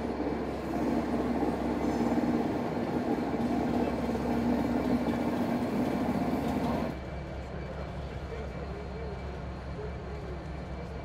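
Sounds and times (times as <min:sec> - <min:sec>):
diesel locomotive droning: 0:00.0 - 0:11.0.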